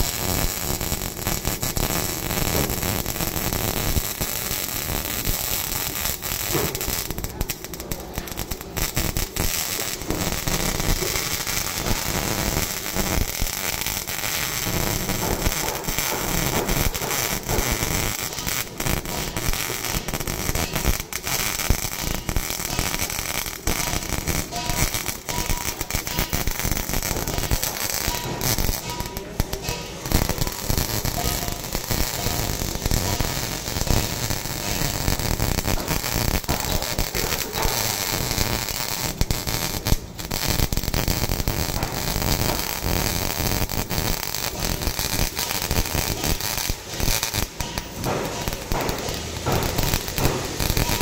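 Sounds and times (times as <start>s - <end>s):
welding arc crackling and popping: 0.0s - 51.0s.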